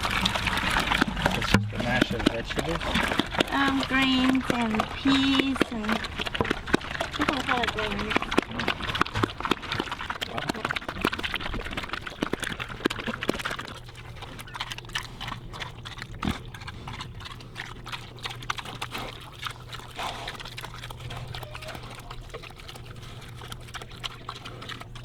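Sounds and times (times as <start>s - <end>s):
animals eating wet smacking: 0.0s - 25.0s
steady low hum: 0.0s - 25.0s.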